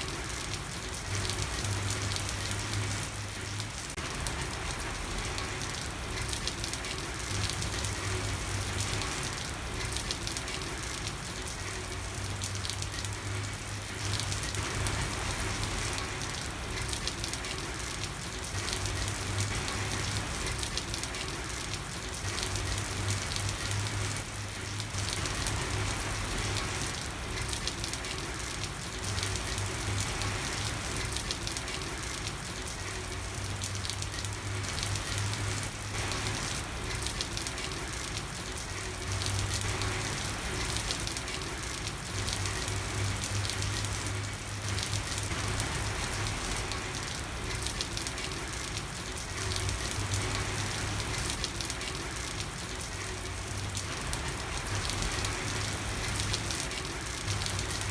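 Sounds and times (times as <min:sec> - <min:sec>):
rain on a hard street: 0:00.0 - 0:57.9.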